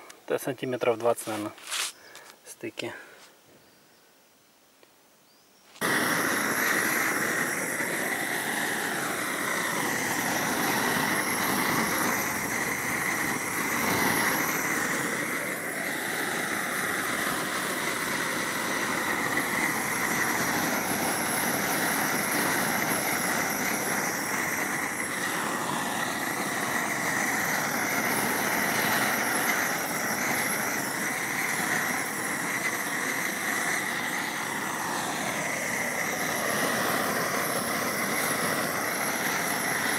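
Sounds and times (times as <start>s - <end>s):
gas burner flame rushing: 5.8s - 39.9s.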